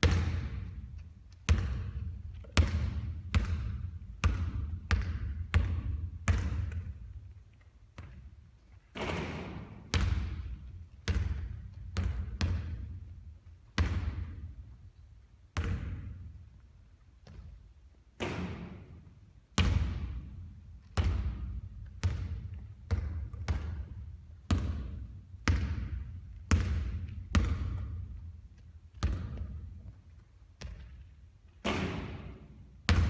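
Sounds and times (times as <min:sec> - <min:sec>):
basketball thuds with echo: 0:00.0 - 0:07.3, 0:08.9 - 0:13.1, 0:13.8 - 0:14.6, 0:15.5 - 0:16.4, 0:18.2 - 0:28.3, 0:28.9 - 0:30.0, 0:30.6 - 0:33.0.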